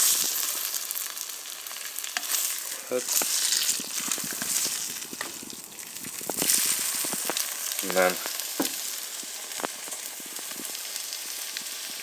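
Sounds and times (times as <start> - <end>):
eggs and bread sizzling in a pan: 0.0 - 12.0.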